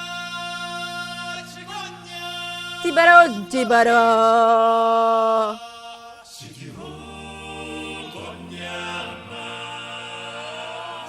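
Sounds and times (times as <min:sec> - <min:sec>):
voices singing a cappella: 0:00.0 - 0:11.0.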